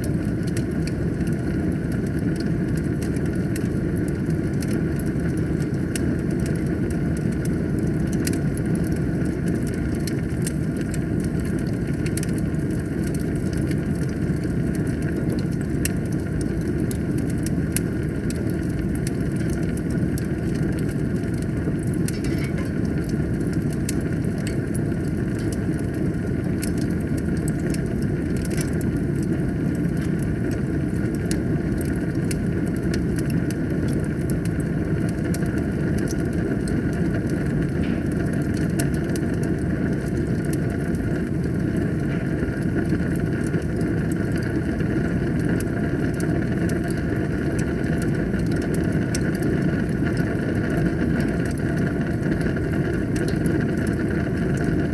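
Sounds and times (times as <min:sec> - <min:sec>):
fire crackling and popping: 0:00.0 - 0:54.9
fire roaring: 0:00.0 - 0:54.9.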